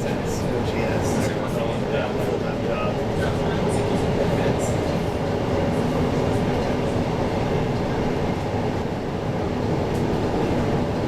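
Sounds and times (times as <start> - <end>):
metro car running rumble: 0.0 - 11.0.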